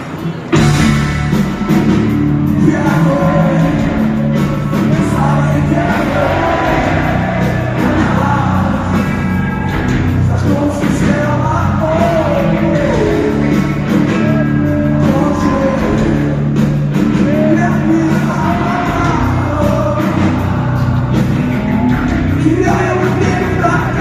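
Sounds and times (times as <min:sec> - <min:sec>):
distorted electric guitars: 0:00.0 - 0:24.0
rock drums: 0:00.0 - 0:24.0
person singing: 0:02.5 - 0:24.0.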